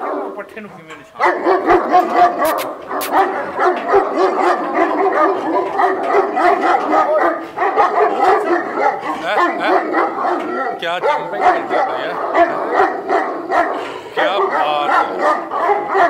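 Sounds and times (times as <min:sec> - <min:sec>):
dogs barking loudly: 0:00.0 - 0:16.0.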